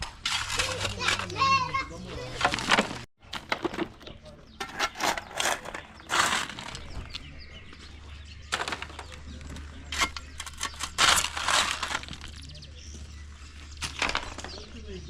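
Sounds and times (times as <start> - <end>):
concrete rubble crunching and scraping: 0.0 - 15.0.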